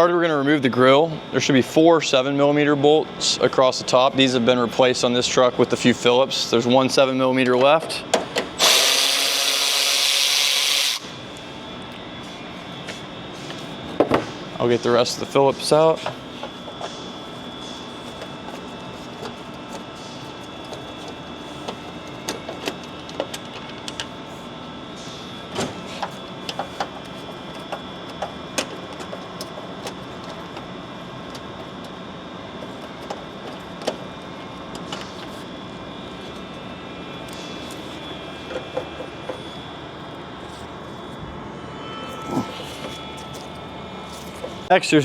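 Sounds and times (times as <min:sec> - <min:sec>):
steady background hum: 0:00.0 - 0:45.0.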